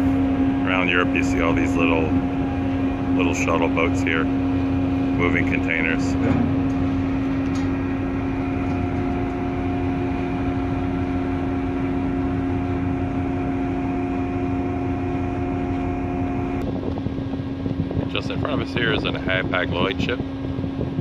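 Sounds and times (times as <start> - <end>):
ship machinery drone: 0.0 - 21.0.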